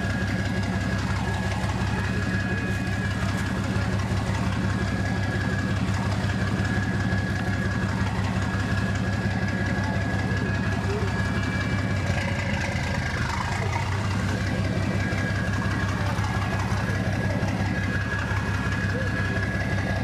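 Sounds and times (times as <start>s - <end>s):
boat diesel engine running: 0.0s - 20.0s
high engine whine: 0.0s - 20.0s.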